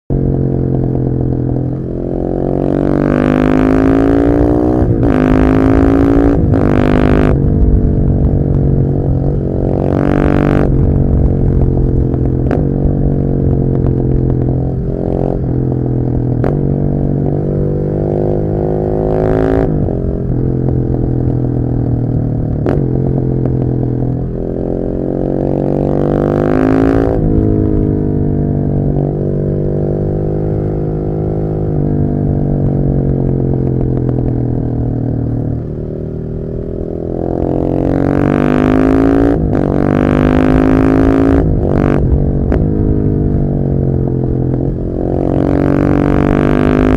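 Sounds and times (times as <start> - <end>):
motorcycle engine revving: 0.1 - 46.9.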